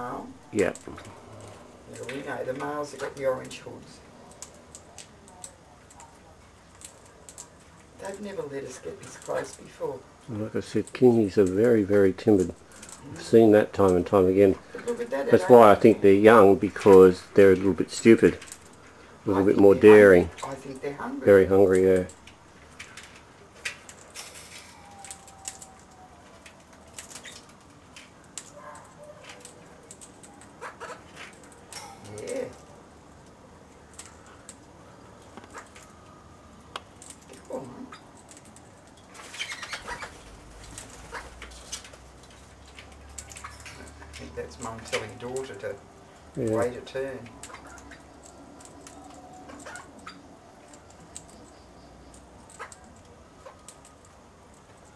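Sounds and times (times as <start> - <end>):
parrots clicking and tapping: 0.6 - 54.9.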